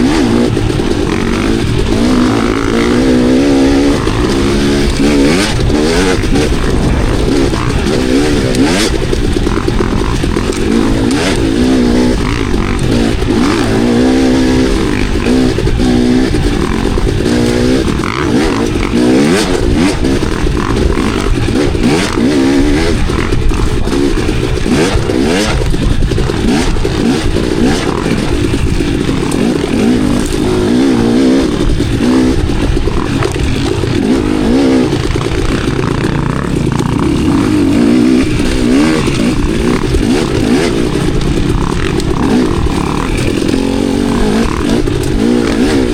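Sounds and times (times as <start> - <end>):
bike clattering over rough ground: 0.0 - 45.9
dirt bike engine revving: 0.0 - 45.9.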